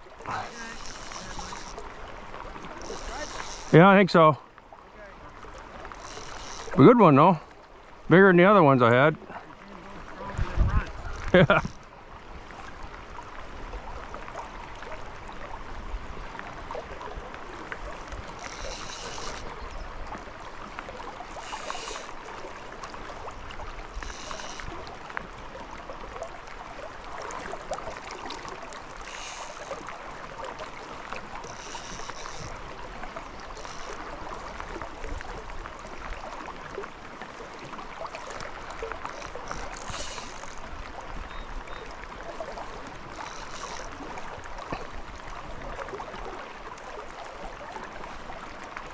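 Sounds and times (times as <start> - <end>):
rain pattering on water: 0.0 - 48.9.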